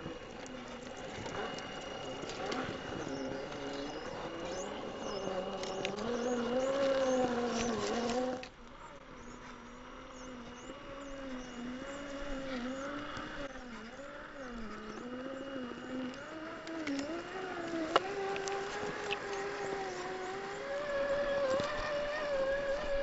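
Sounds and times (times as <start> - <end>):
electric motor and gear whine: 0.0 - 23.0.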